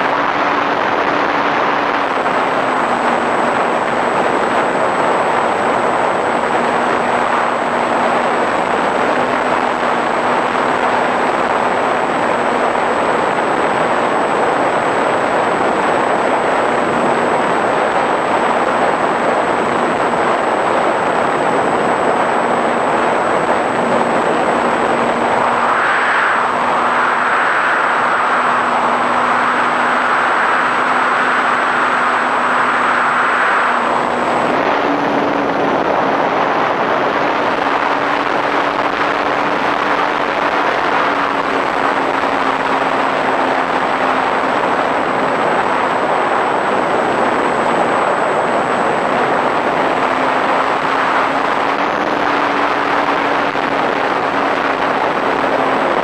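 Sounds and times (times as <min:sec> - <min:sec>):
electric motor and propeller hum: 0:00.0 - 0:56.0
wind rush over microphone: 0:00.0 - 0:56.0.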